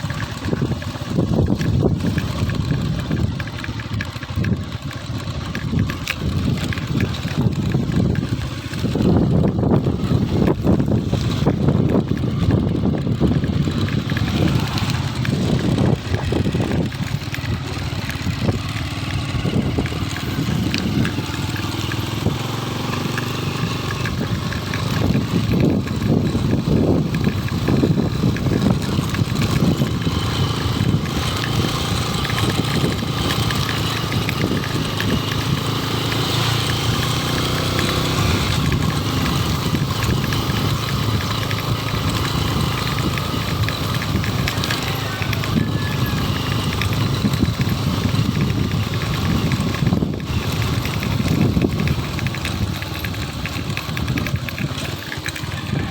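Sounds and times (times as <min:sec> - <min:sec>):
motorcycle engine rumble: 0:00.0 - 0:55.9.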